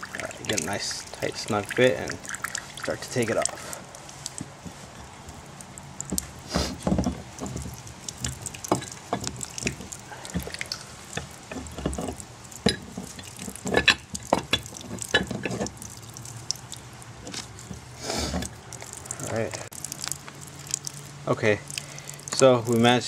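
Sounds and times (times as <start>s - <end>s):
water dripping: 0.0s - 23.0s.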